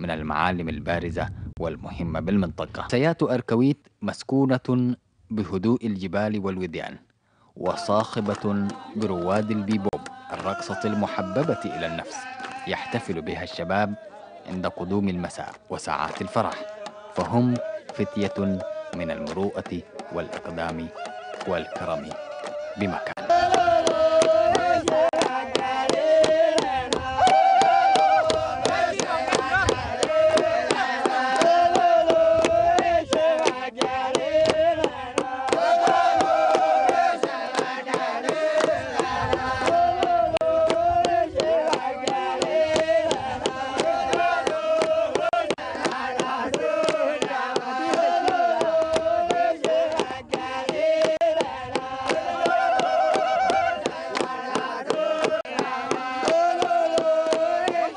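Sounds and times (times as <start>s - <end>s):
rhythmic hand-clapping: 7.6s - 12.7s, 15.3s - 57.9s
men singing in chorus: 7.6s - 57.9s.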